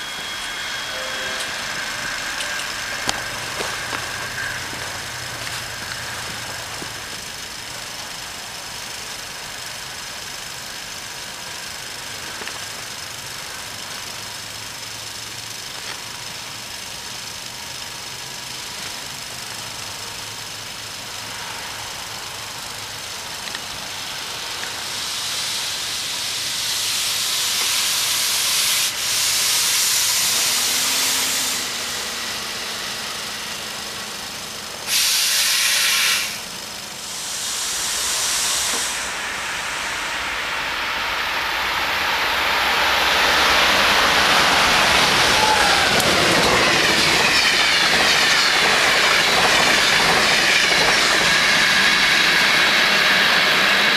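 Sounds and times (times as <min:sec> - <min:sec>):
train passing at speed: 0:00.0 - 0:53.9.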